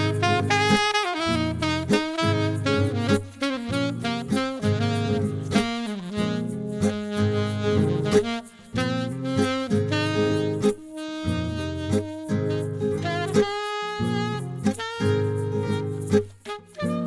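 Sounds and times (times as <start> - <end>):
instrumental music with drums: 0.1 - 13.8.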